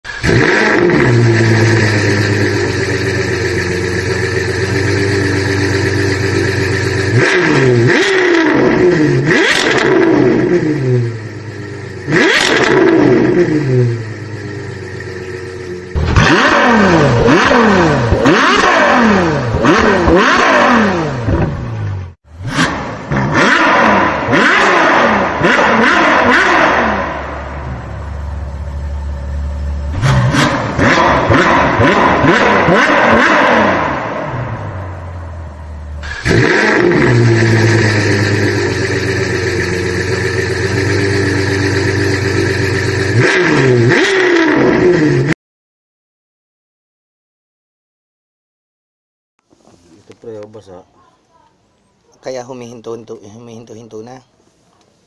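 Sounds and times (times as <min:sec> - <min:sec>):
engine idling and revving: 0:00.0 - 0:45.4.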